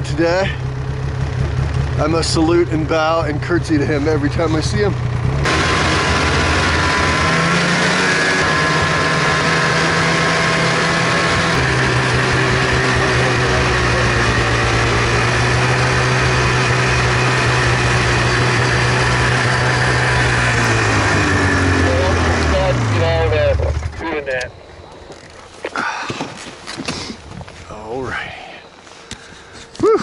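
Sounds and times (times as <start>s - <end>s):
snowmobile engine running: 0.0s - 24.4s.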